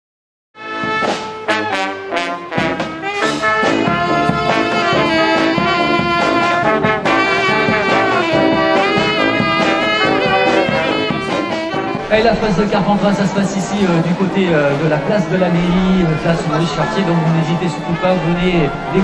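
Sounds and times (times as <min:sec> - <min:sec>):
brass band playing: 0:00.6 - 0:19.0.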